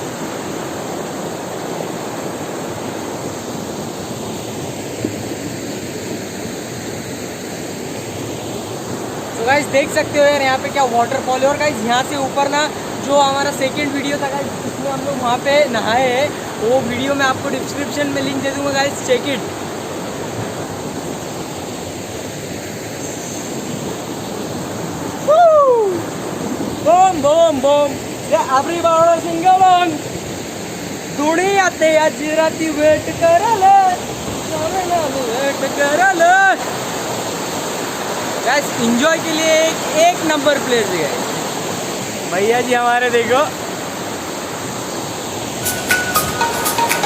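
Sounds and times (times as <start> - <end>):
waterfall rushing water: 0.0 - 47.0.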